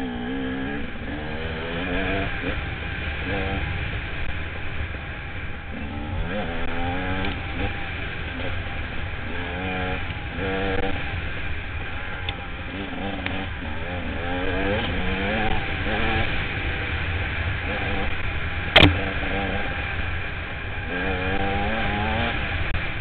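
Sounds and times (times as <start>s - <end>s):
dirt bike engine revving: 0.0s - 23.0s
steady low rumble: 0.0s - 23.0s.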